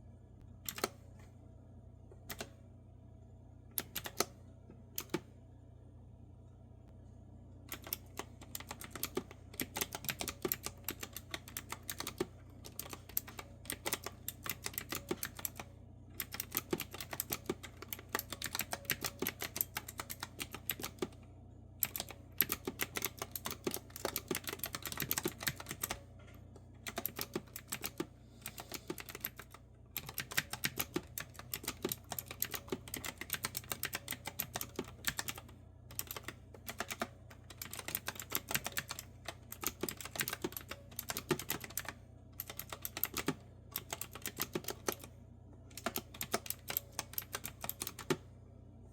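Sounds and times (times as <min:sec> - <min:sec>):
clicky keyboard typing: 0:00.6 - 0:01.0, 0:02.2 - 0:02.6, 0:03.8 - 0:04.4, 0:05.0 - 0:05.3, 0:07.7 - 0:21.2, 0:21.8 - 0:26.0, 0:26.6 - 0:45.1, 0:45.7 - 0:48.2.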